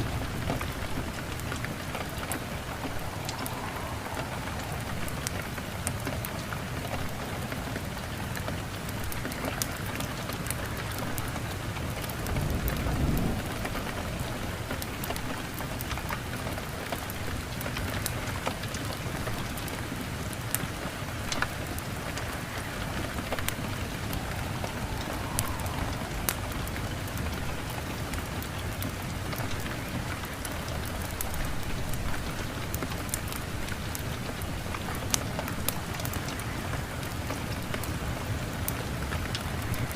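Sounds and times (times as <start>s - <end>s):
low rumble of thunder: 0.0s - 8.7s, 9.3s - 19.7s, 21.2s - 39.9s
fireplace fire crackling: 0.0s - 39.9s
steady rain: 0.0s - 39.9s.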